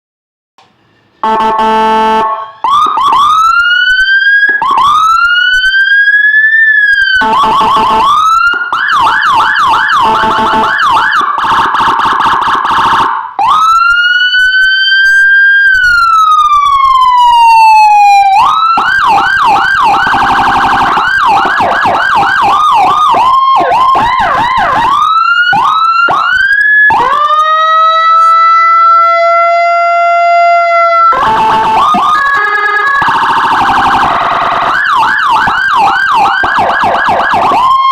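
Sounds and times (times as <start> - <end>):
electronic police siren: 1.2 - 37.9.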